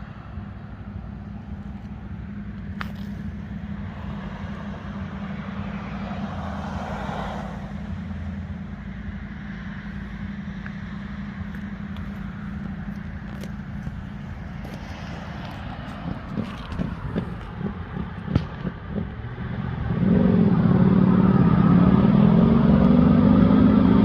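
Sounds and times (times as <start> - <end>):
low hum of traffic: 0.0 - 24.0
vehicle passing: 0.0 - 24.0.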